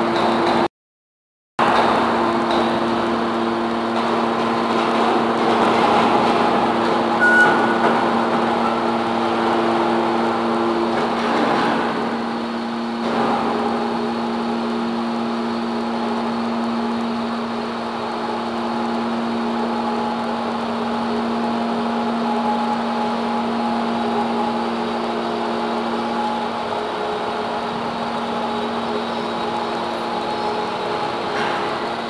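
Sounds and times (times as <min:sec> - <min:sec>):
hydraulic machine hum: 0:01.6 - 0:32.0.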